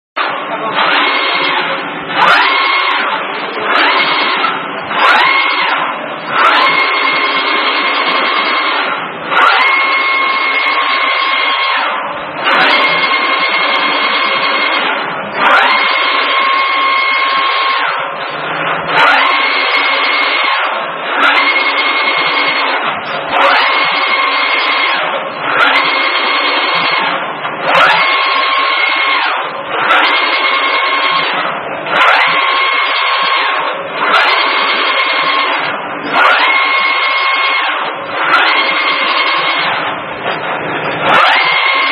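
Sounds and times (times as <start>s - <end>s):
gantry motors whining: 0.2s - 41.9s.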